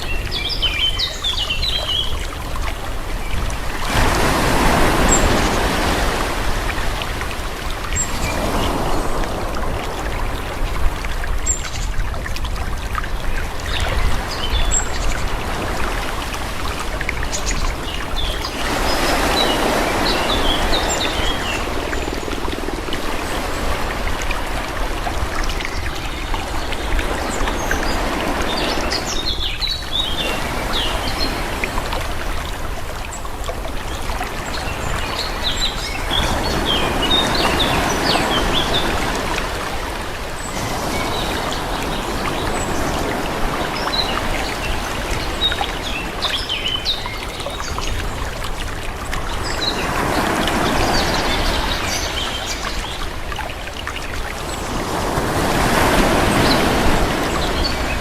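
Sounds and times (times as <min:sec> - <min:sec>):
sea waves washing on shore: 0:00.0 - 0:58.0.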